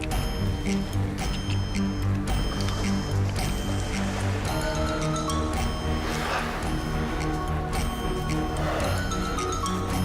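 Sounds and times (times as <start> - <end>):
documentary score with light beat: 0.0 - 10.0.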